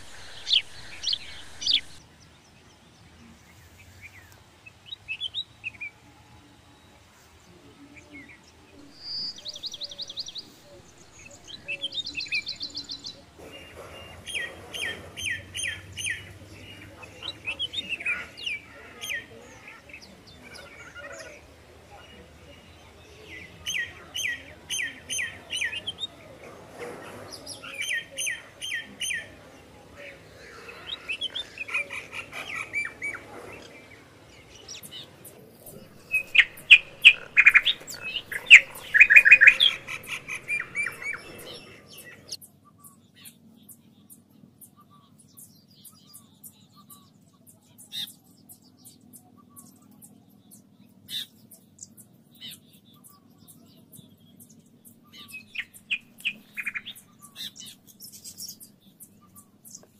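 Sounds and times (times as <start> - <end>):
birds singing and chirping: 0.0 - 59.9
faint low hum: 0.0 - 59.9.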